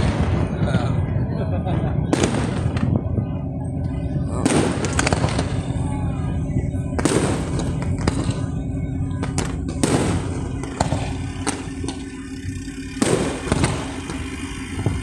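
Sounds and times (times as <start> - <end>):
fireworks booming: 0.0 - 15.0.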